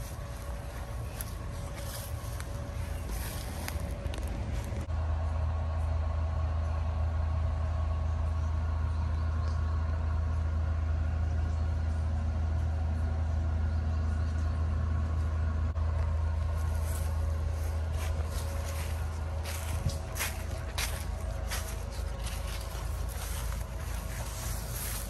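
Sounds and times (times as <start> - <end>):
heavy vehicle idling: 0.0 - 25.0.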